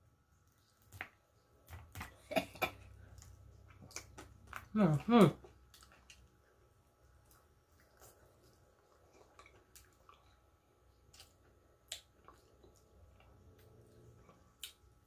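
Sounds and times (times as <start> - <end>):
quiet chewing: 0.3 - 15.0.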